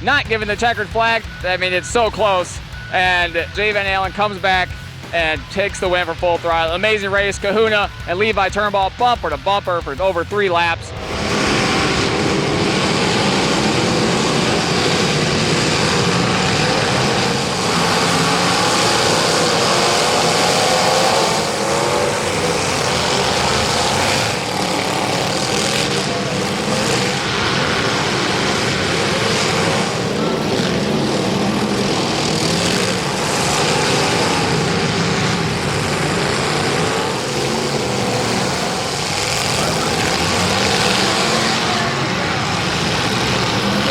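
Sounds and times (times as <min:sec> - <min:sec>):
loud car engines droning: 0:00.0 - 0:43.9.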